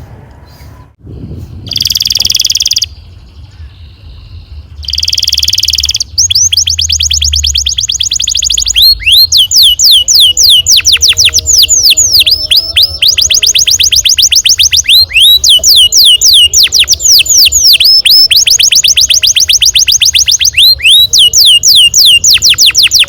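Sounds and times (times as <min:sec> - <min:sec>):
canary singing: 0:01.7 - 0:23.0.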